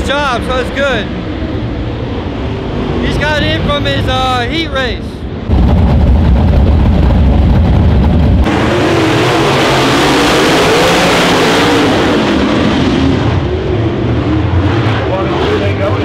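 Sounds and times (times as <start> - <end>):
deep low engine rumble: 0.0 - 10.0, 11.8 - 16.0
race car engines: 0.0 - 16.0.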